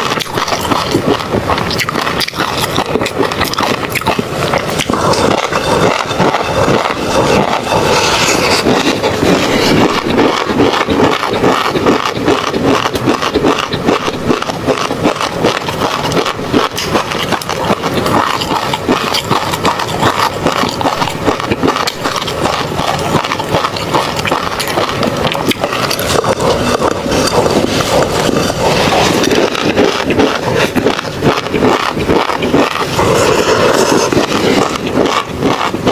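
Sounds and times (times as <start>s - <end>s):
chewing with wet pops: 0.0s - 35.9s.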